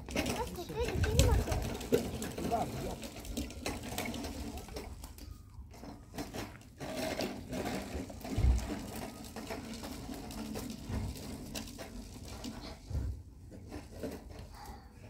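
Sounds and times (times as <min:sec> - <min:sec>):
brushwood fire crackling: 0:00.0 - 0:13.4.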